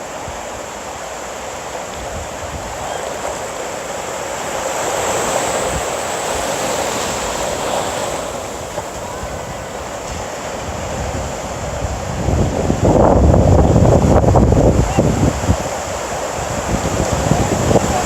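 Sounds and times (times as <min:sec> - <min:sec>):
ocean surf washing ashore: 0:00.0 - 0:18.0.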